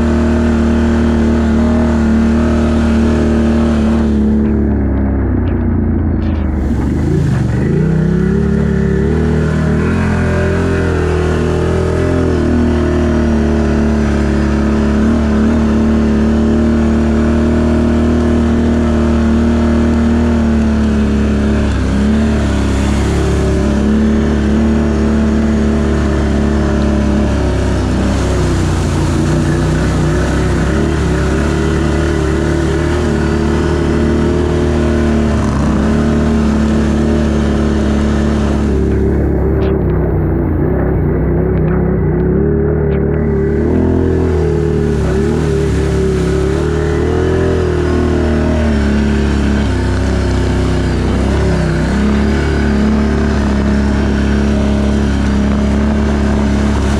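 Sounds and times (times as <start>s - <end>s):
atv engine running: 0.0s - 56.9s
tyres churning muddy water: 0.0s - 56.9s.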